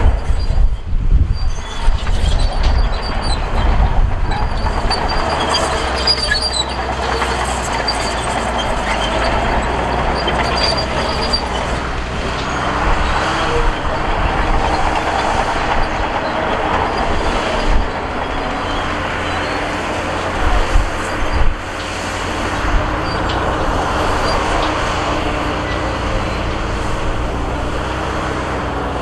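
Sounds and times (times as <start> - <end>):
high metallic squeals: 0.0 - 28.9
bulldozer diesel engine: 0.0 - 29.0
tracks grinding: 0.0 - 29.0.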